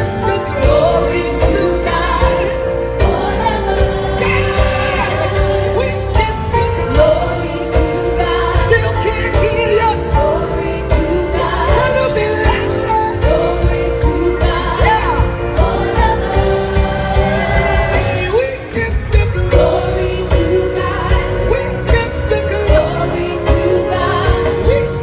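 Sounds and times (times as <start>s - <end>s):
live gospel band: 0.0s - 25.0s
people singing: 0.0s - 25.0s
steady drum beat: 0.0s - 25.0s.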